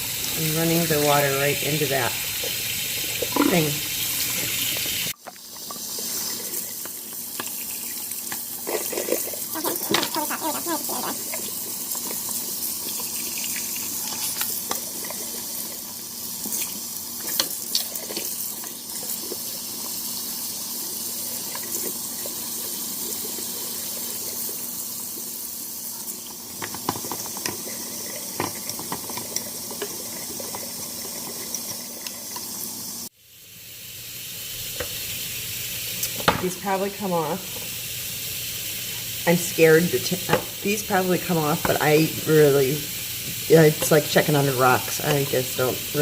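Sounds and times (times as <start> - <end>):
tap water running into sink: 0.0 - 32.7, 36.0 - 46.0.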